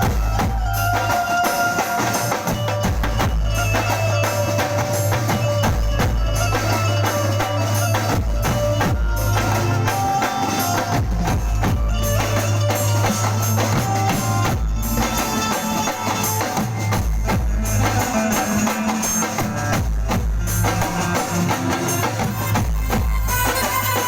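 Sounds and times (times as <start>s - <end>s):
heavy bass drum beat: 0.0s - 24.0s
live band over a sound system: 0.0s - 24.0s.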